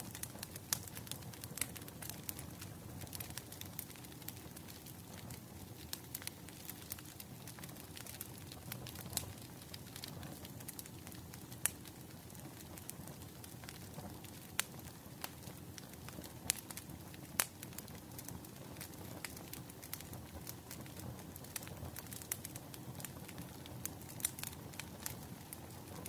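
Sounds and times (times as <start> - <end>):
bonfire crackling: 0.0 - 26.0.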